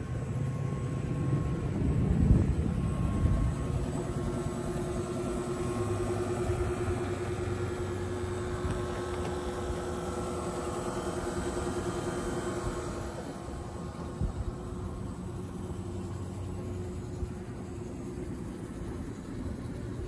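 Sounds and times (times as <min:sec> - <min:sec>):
electric motor humming and whining: 0:00.0 - 0:20.0.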